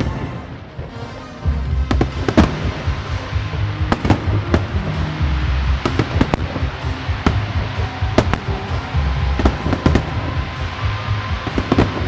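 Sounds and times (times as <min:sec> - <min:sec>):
music playing: 0:00.0 - 0:12.0
low rumble: 0:01.4 - 0:12.0
fireworks bangs: 0:01.8 - 0:12.0.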